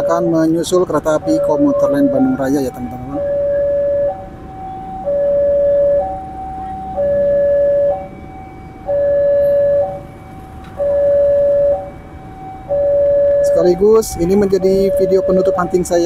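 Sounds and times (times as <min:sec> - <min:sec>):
two-tone level-crossing alarm: 0:00.0 - 0:16.0.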